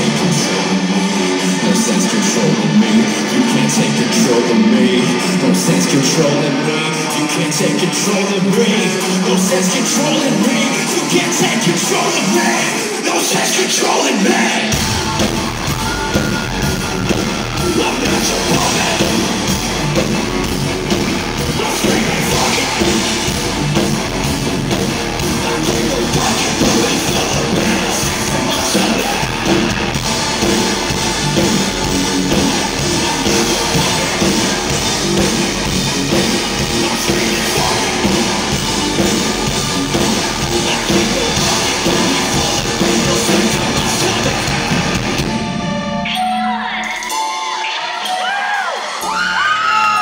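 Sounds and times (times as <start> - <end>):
heavy rock band playing live: 0.0 - 50.0.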